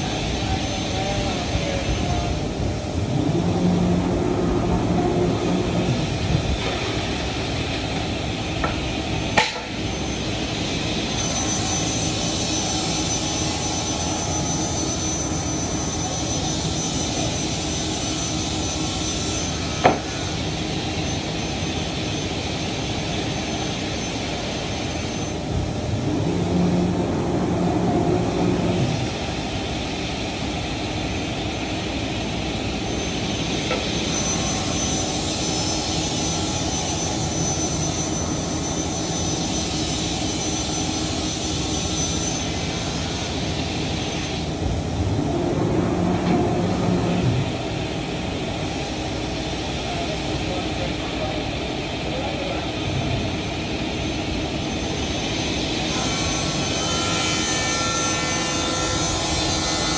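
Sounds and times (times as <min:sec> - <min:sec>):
deep machine hum: 0:00.0 - 0:59.9
woodworking machinery running: 0:00.0 - 0:59.9.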